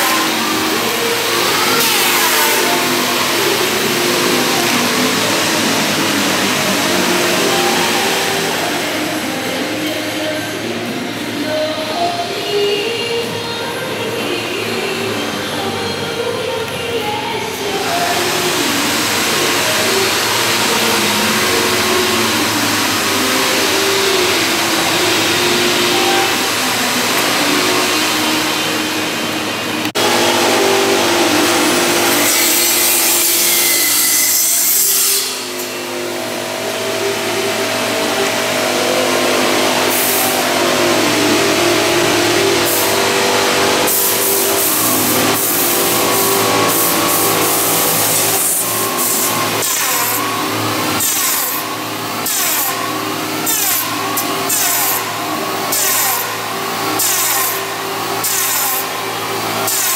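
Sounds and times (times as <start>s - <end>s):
power tool cutting timber: 0.0s - 12.0s, 17.6s - 59.9s.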